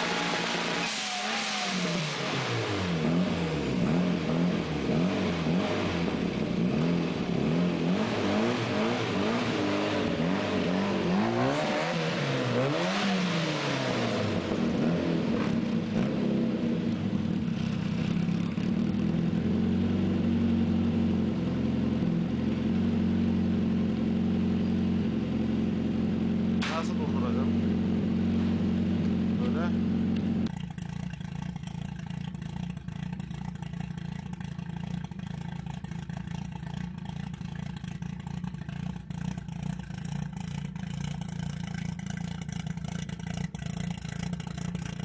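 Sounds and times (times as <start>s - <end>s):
car engine revving and idling: 0.0s - 45.0s.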